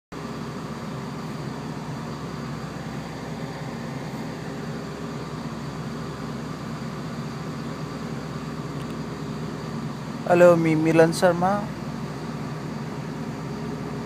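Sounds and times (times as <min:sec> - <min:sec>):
train carriage rumble and hum: 0:00.2 - 0:14.0.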